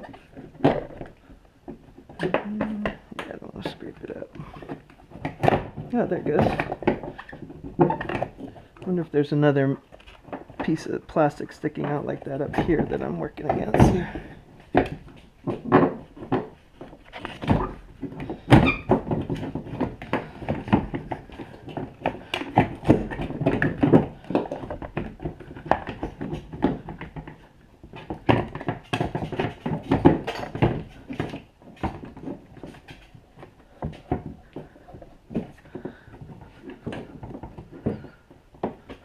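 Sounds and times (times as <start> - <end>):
plastic clicking and creaking: 0.0 - 9.1, 9.7 - 39.0.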